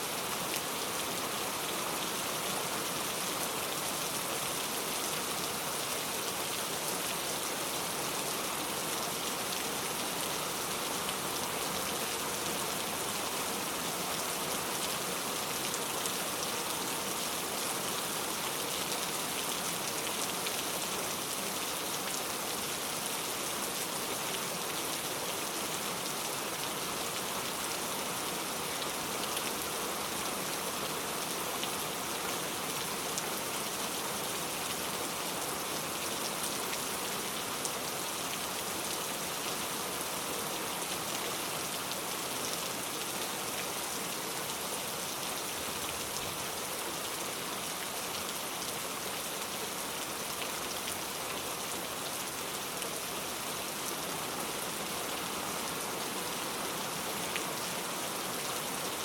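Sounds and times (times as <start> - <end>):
heavy rain on a road: 0.1 - 59.0.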